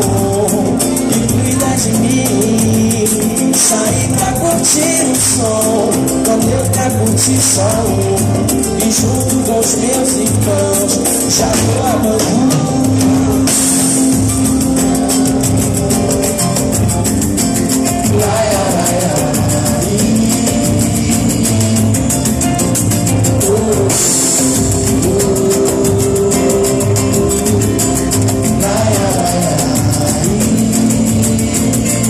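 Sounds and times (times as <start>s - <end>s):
fast percussion beat: 0.0s - 32.0s
strummed guitar and strings: 0.0s - 32.0s.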